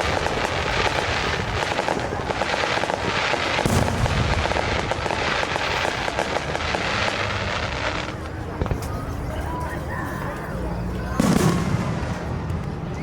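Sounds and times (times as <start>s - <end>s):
firework bang: 0.0s - 9.0s, 11.2s - 12.6s
fireworks crackling: 0.0s - 9.8s, 11.0s - 13.0s.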